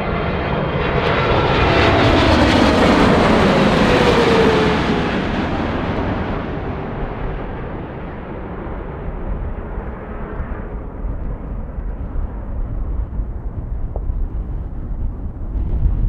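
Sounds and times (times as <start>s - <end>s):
jet airliner engine noise: 0.0s - 16.0s
wind rumbling on microphone: 0.0s - 16.0s.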